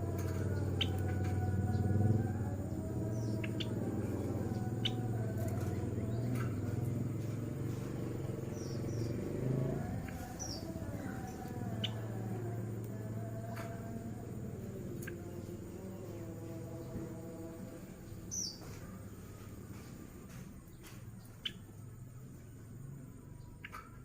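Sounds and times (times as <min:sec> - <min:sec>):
sparrow chip calls: 0:00.0 - 0:22.5, 0:23.4 - 0:24.0
steady low hum: 0:00.0 - 0:24.0.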